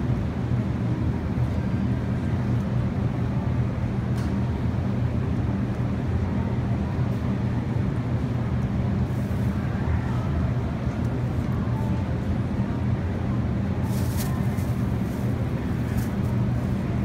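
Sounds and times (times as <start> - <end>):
refrigeration and ventilation hum: 0.0 - 17.0.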